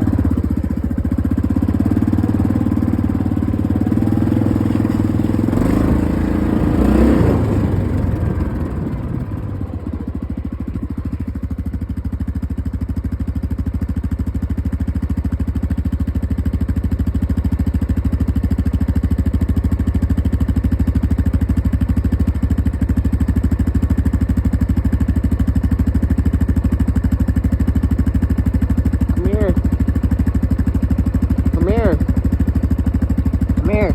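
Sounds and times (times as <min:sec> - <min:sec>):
quad bike engine idling: 0:00.0 - 0:33.9.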